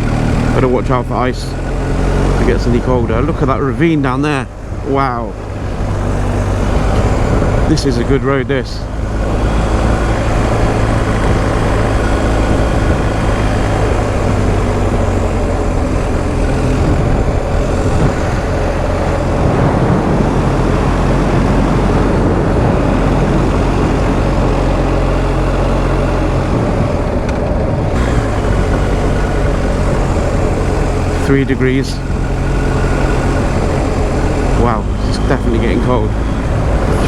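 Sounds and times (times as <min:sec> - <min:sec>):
motorcycle engine running: 0:00.0 - 0:37.0
road noise: 0:00.0 - 0:37.0
wind noise: 0:00.0 - 0:37.0.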